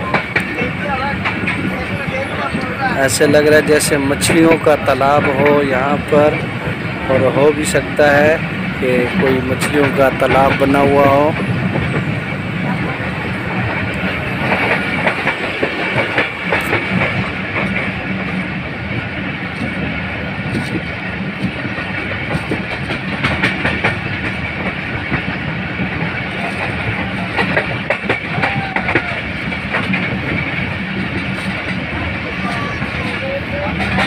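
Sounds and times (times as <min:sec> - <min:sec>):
train wheels rumbling on track: 0:00.0 - 0:34.0
wheels clacking over rail joints: 0:00.0 - 0:34.0.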